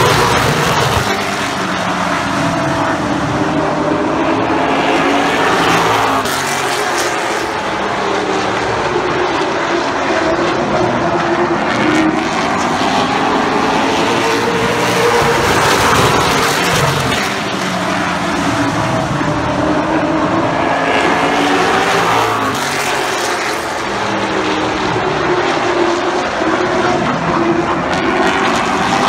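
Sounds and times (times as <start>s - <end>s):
race car engines at full throttle: 0.0s - 29.0s.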